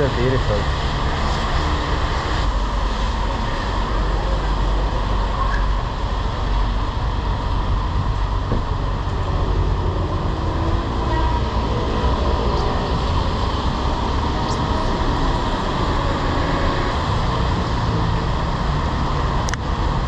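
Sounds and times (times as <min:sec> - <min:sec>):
road noise: 0:00.0 - 0:20.0
rumbling wind noise: 0:00.0 - 0:20.0.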